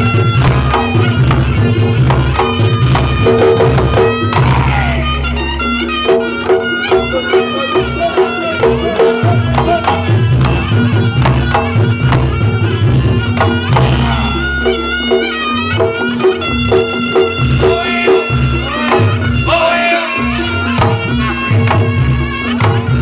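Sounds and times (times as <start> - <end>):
hand drum played fast: 0.0 - 23.0
reedy shawm melody: 0.0 - 23.0
repeating two-note pattern: 0.0 - 23.0.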